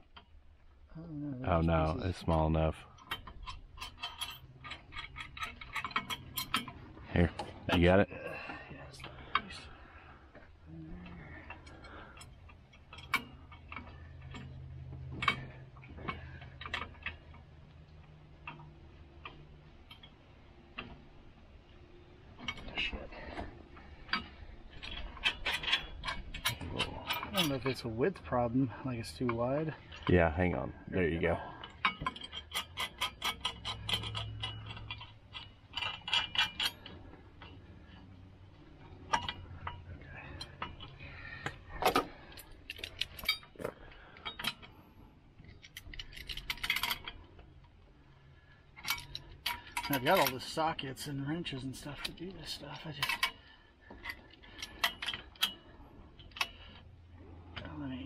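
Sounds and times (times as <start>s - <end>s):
metal bolts clicking and clinking: 1.6s - 58.0s.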